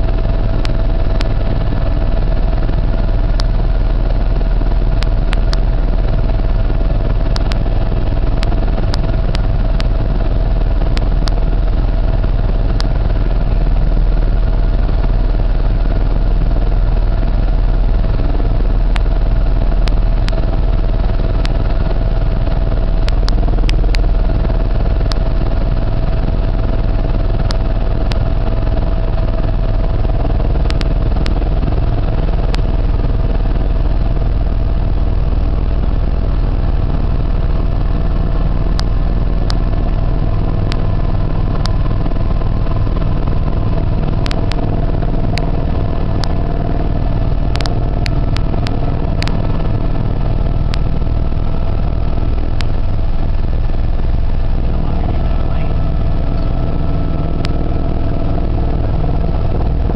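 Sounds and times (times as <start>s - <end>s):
aircraft engine drone in cabin: 0.0s - 59.9s.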